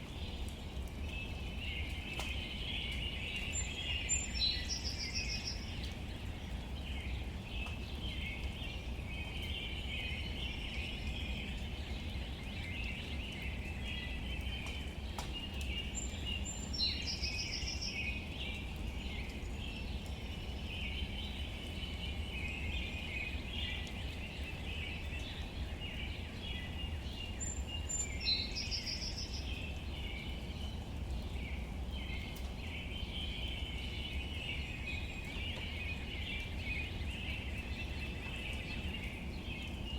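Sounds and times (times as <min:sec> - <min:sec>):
chirping birds and insects: 0:00.0 - 0:39.9.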